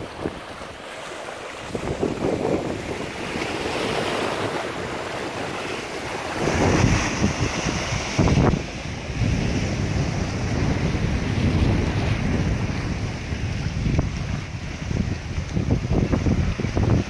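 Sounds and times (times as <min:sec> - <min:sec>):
surf washing over rocks: 0:00.0 - 0:17.0
wind buffeting microphone: 0:00.0 - 0:17.0.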